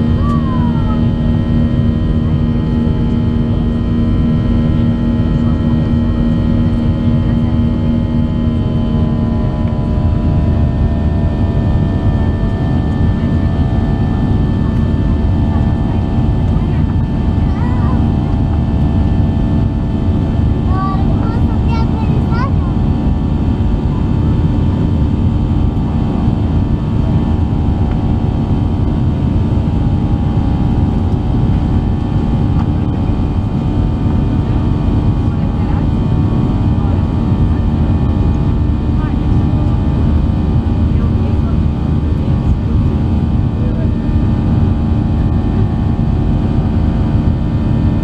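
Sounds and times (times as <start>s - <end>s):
jet engine drone in cabin: 0.0s - 48.0s
low hum: 0.0s - 48.0s.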